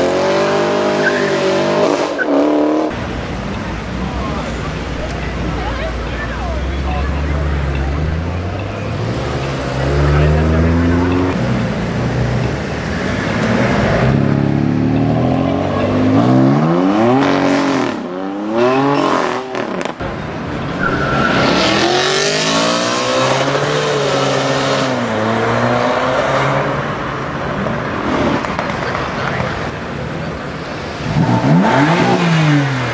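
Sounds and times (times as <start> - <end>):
car revving and passing: 0.0 - 32.9
sports car engines accelerating: 0.0 - 32.9.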